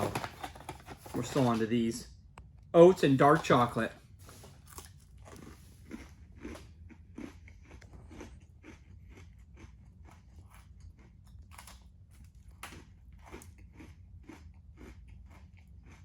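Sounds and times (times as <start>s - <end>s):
person chewing crunchy granola bar: 2.8s - 16.0s.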